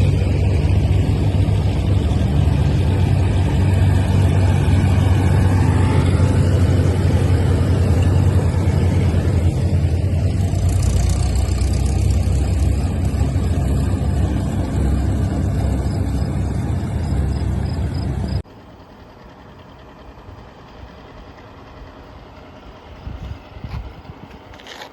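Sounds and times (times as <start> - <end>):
ride noise: 0.0 - 24.9
tractor engine pulsing: 0.0 - 24.9.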